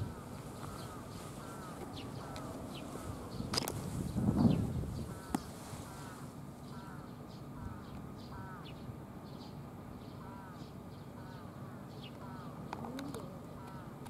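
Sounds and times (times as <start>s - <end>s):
birds calling: 0.0s - 14.0s
steady low hum: 0.0s - 14.0s.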